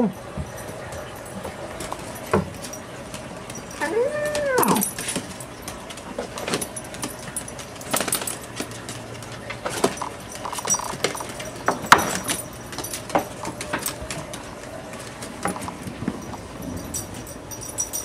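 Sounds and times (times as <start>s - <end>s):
collar tags jingling: 0.0s - 18.0s
dog claws clicking on wood floor: 0.4s - 18.0s.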